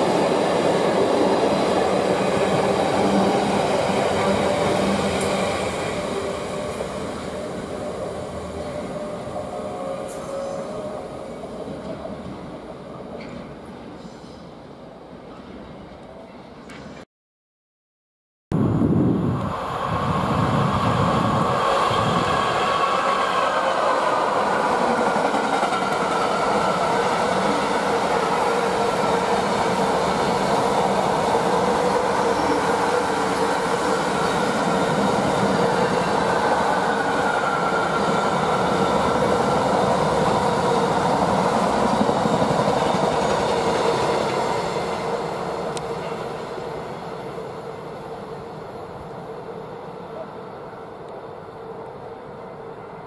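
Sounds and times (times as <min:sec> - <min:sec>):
train wheel-on-rail noise: 0:00.0 - 0:17.0, 0:18.6 - 0:53.0.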